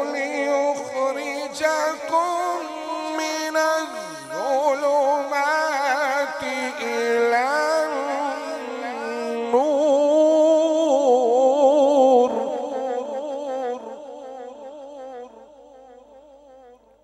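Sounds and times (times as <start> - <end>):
man chanting melodic recitation: 0.0 - 16.9.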